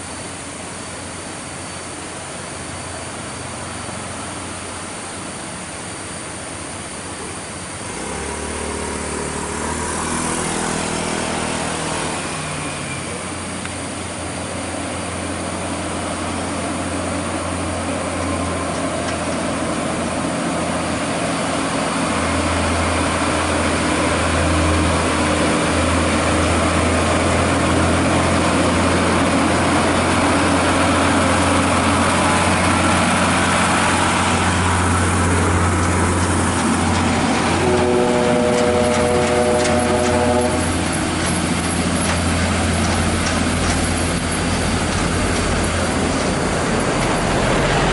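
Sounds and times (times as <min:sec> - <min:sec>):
heavy truck engine droning: 0:00.0 - 0:47.9.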